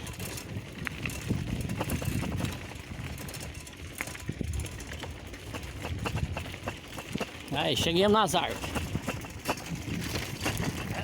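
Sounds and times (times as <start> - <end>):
bicycle tyres rumbling on dirt: 0.0 - 11.0
small clicks and rattles: 0.0 - 11.0.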